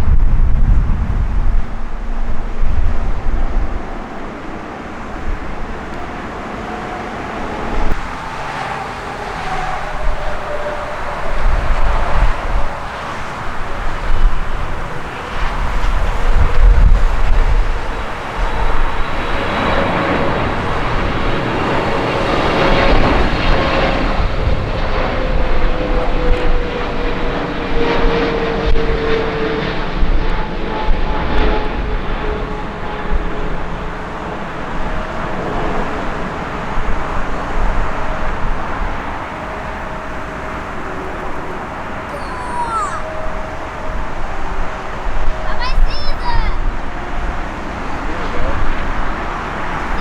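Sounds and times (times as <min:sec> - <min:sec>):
jet engine roar with falling whine: 0:00.0 - 0:50.0.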